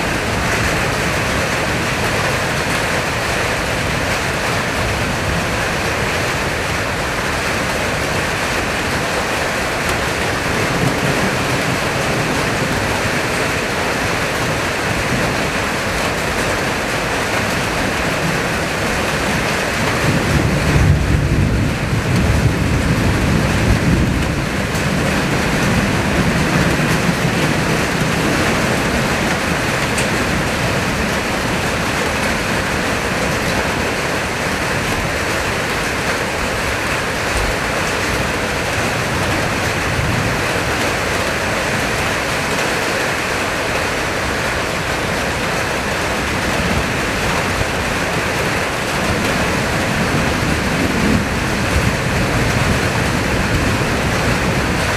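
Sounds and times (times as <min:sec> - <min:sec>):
heavy rain: 0:00.0 - 0:54.9
strong wind: 0:00.0 - 0:54.9.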